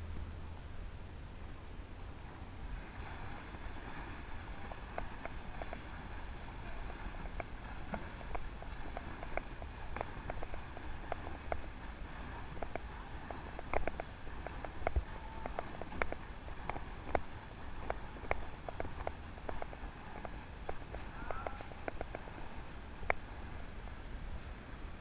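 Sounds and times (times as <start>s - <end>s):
wind rumble on microphone: 0.0s - 25.0s
swimmers splashing: 2.2s - 24.6s.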